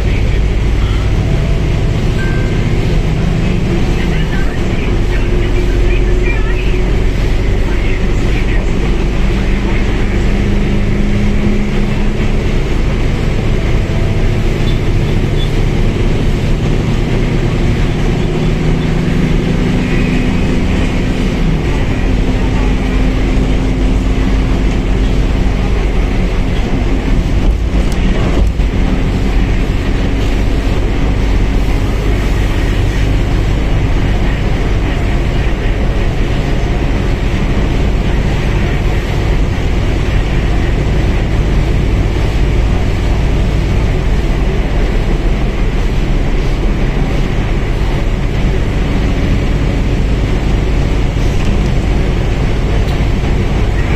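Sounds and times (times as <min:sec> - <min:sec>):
bus diesel engine rumble: 0:00.0 - 0:53.9.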